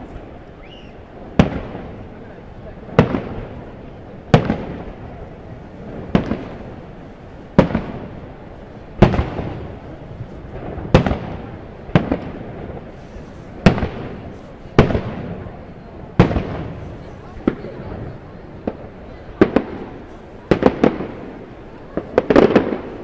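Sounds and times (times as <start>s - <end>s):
fireworks booming with echo: 0.0s - 23.0s.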